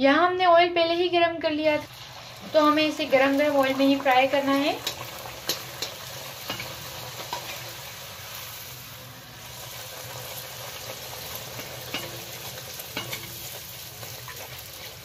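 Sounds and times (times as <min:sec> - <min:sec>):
dough sizzling in hot oil: 0:01.6 - 0:15.0.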